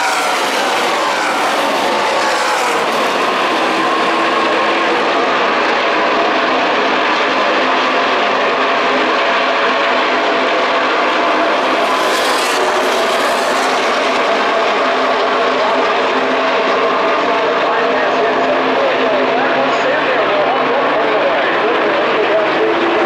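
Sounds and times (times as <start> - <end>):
race truck engines droning: 0.0 - 23.0.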